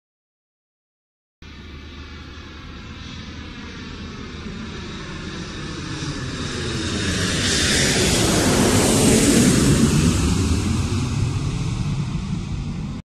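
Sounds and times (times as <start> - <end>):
jet airliner flying overhead: 1.4 - 13.0.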